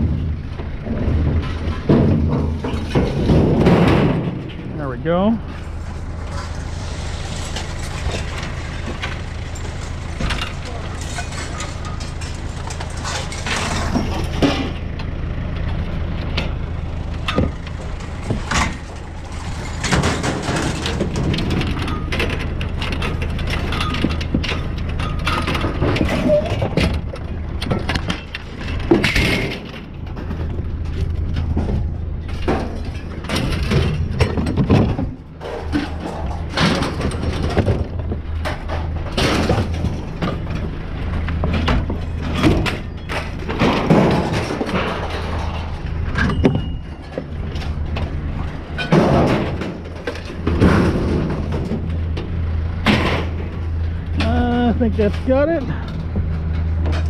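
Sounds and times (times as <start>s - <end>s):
low engine hum: 0.0s - 57.0s
scrap metal clattering and banging: 0.0s - 57.0s.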